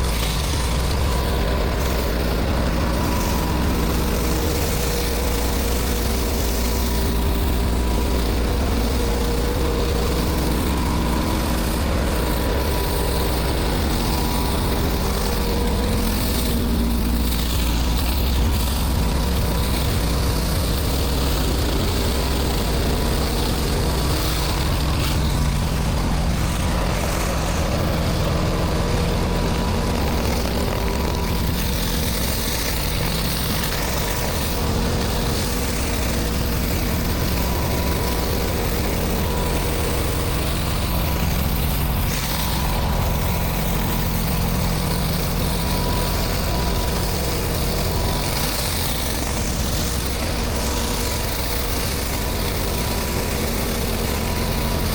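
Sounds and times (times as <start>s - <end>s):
pressure washer engine running: 0.0s - 54.9s
pressure washer hiss: 0.0s - 54.9s.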